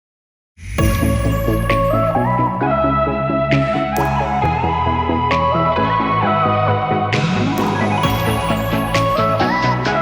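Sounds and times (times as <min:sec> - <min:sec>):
synth music with pulsing bass: 0:00.8 - 0:10.0.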